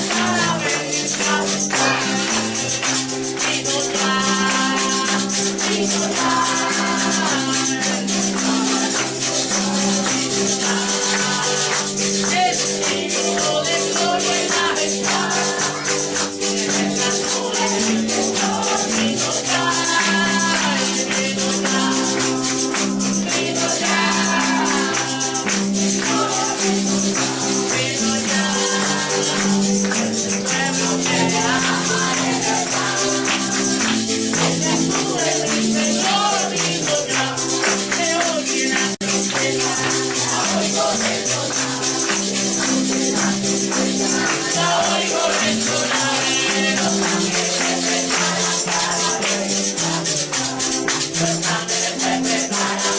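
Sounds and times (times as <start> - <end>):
people singing: 0.0 - 52.9
tambourines shaking: 0.0 - 52.9.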